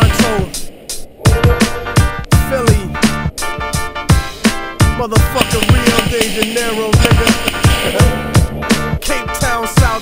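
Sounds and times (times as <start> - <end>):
hip hop drum beat: 0.0 - 10.0.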